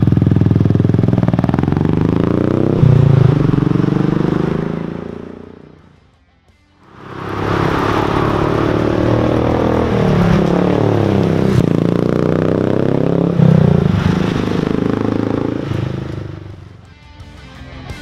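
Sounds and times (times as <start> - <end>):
motorcycle exhaust running: 0.0 - 5.9, 6.9 - 16.8.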